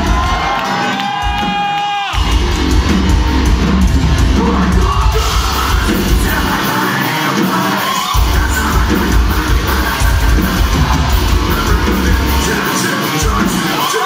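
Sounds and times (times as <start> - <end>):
distorted guitars: 0.0 - 14.0
drums: 0.0 - 14.0.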